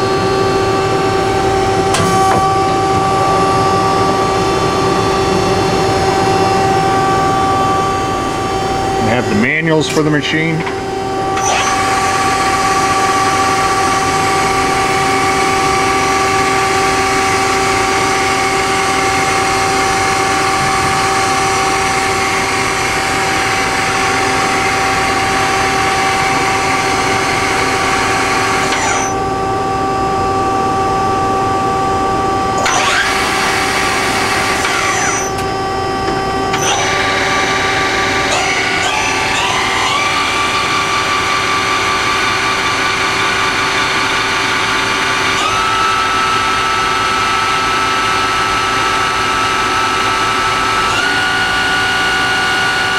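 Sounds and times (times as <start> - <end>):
machine whine: 0.0 - 52.9.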